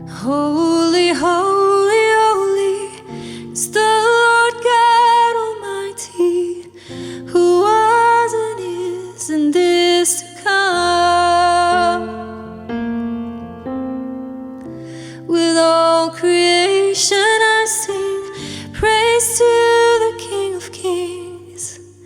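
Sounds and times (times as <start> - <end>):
person singing: 0.0 - 12.8, 15.0 - 22.0
electric piano chords: 0.0 - 22.0.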